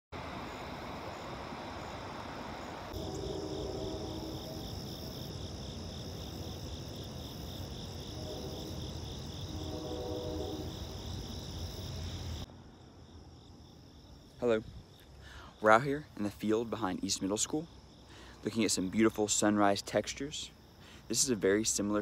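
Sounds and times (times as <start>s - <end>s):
crickets and insects chirping: 0.2s - 22.0s.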